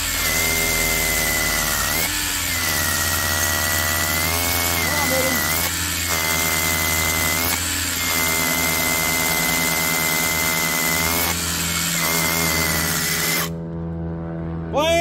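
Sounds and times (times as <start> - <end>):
rotary hammer drilling into stone: 0.0 - 13.6.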